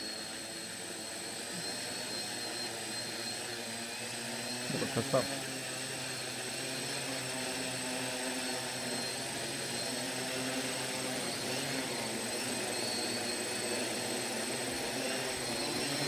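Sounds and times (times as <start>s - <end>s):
quadcopter motors buzzing whir: 0.0s - 16.0s.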